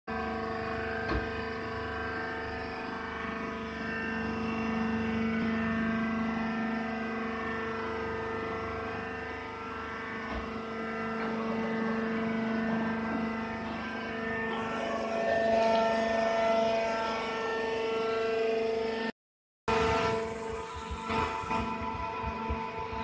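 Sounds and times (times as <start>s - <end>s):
hydraulic unit droning hum: 0.1s - 19.1s, 19.7s - 23.0s.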